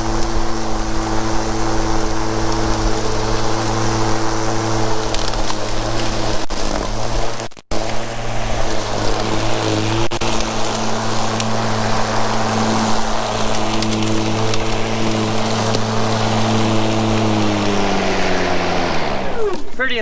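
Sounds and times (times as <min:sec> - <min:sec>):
electric lawn mower running: 0:00.0 - 0:19.8.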